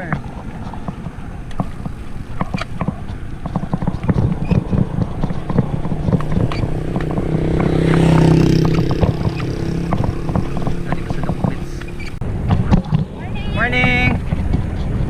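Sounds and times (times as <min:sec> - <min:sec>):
sharp clicks and knocks: 0:00.0 - 0:13.1
vehicle engine hum: 0:00.0 - 0:15.0.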